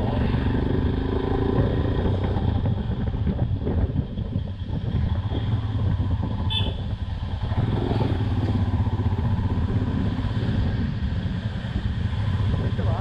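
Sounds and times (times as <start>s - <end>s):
motorcycle exhaust rumble: 0.0s - 13.0s
road and wind noise: 0.0s - 13.0s.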